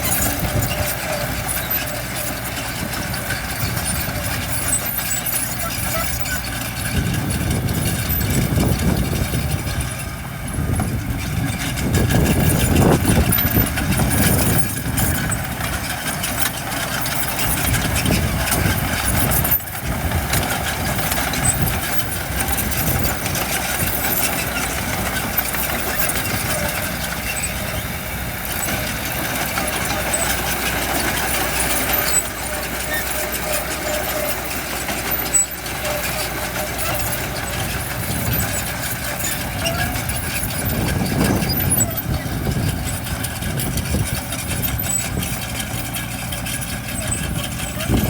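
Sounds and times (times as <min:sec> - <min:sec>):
construction machinery diesel engine: 0:00.0 - 0:48.0.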